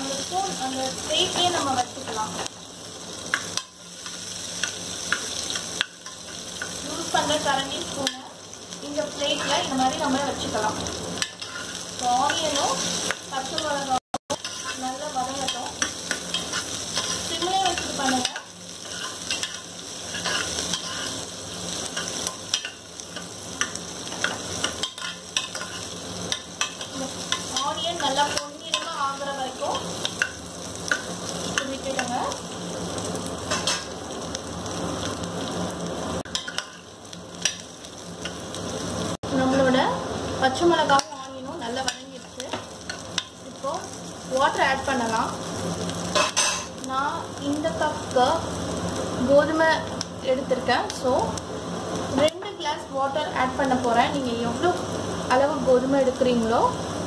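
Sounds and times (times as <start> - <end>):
onions sizzling in hot oil: 0.0 - 57.0.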